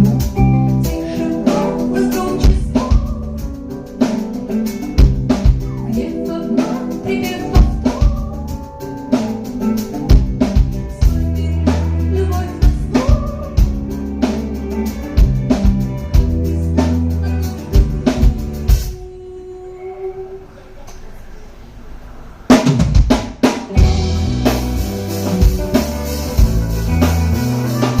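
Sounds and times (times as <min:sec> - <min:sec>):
song with drums bass and vocals: 0:00.0 - 0:19.2, 0:22.5 - 0:28.0.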